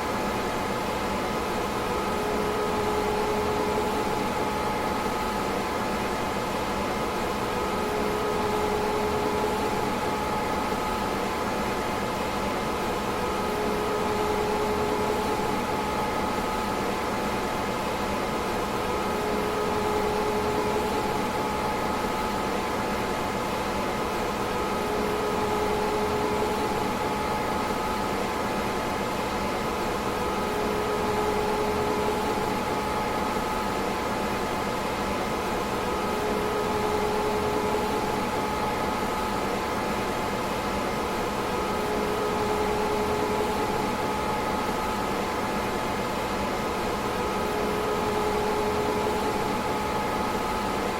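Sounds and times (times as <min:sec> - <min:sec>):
computer cooling fans whirring: 0:00.0 - 0:50.9.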